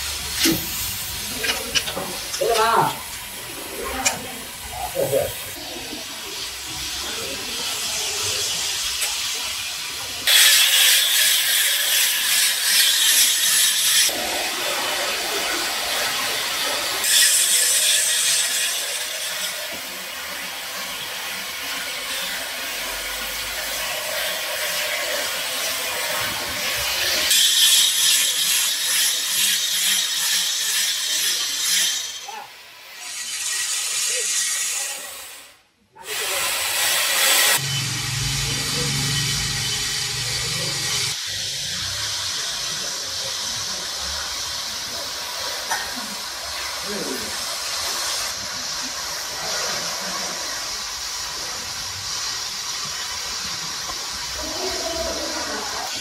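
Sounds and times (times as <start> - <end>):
rope-twisting machine hissing: 0.0 - 56.0.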